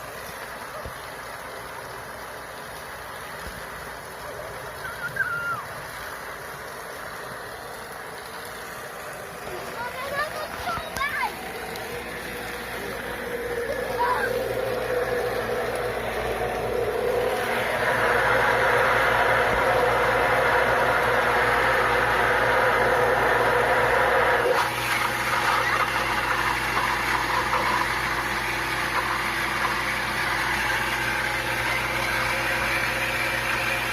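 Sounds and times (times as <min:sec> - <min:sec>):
rushing water noise: 0:00.0 - 0:33.9
water pump humming: 0:00.0 - 0:33.9.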